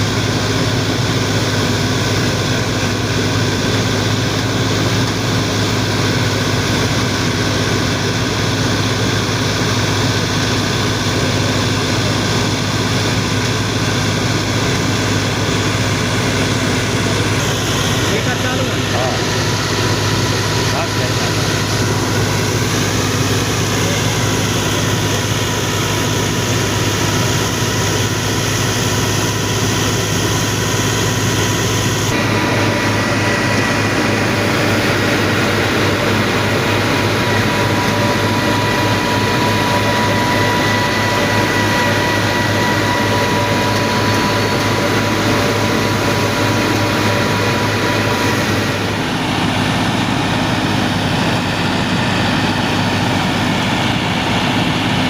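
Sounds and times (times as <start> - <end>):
thresher machinery whining: 0.0 - 55.0
tractor engine humming: 0.0 - 55.0.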